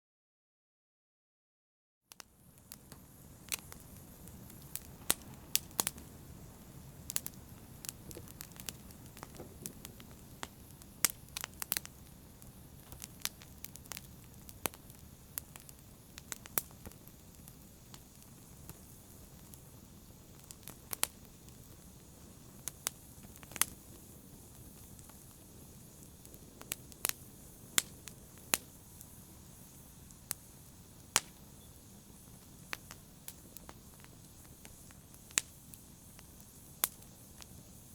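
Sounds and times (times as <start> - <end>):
fire pops and snaps: 2.1 - 37.9
soft rush of flame: 2.2 - 37.9.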